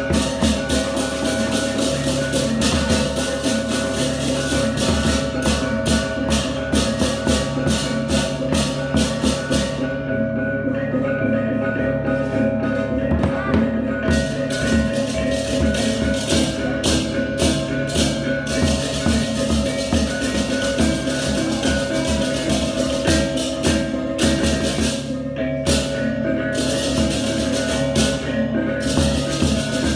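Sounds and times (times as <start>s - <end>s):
crashing hand cymbals: 0.0s - 29.9s
drums: 0.0s - 29.9s
ringing gongs: 0.0s - 29.9s.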